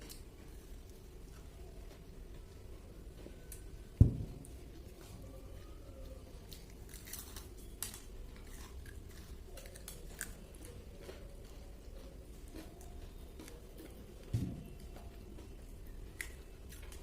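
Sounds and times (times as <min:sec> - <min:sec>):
chewing crispy food: 0:00.0 - 0:17.0.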